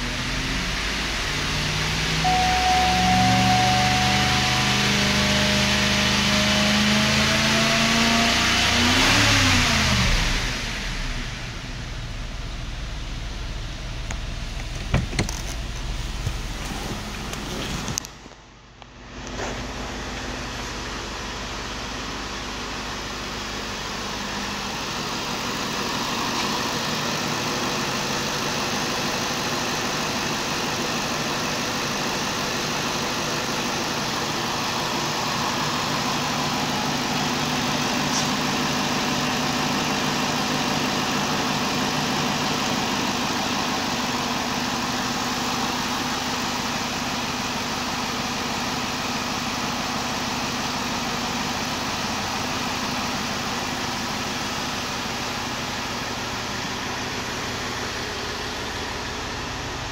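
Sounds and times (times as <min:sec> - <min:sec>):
car engine idling: 0:00.0 - 0:08.2, 0:08.8 - 0:59.9.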